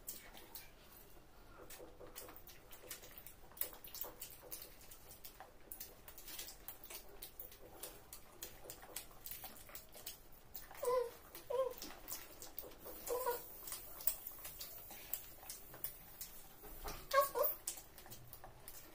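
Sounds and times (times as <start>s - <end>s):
children chewing and lip smacking: 0.0s - 18.9s.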